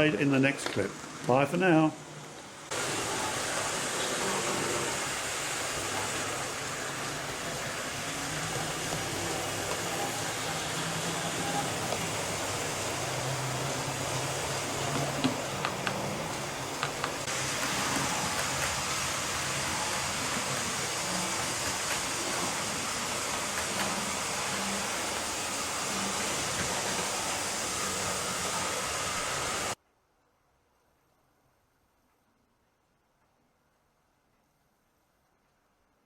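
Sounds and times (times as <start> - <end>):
model train motors and wheels: 0.0 - 29.8.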